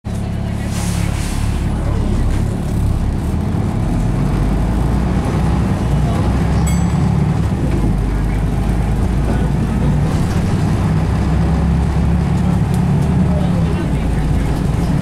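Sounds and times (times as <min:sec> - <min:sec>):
bus diesel engine: 0:00.0 - 0:15.0.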